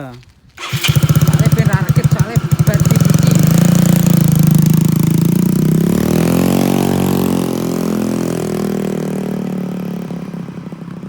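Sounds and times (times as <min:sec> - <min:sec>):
scooter engine pulling away: 0:00.6 - 0:11.0.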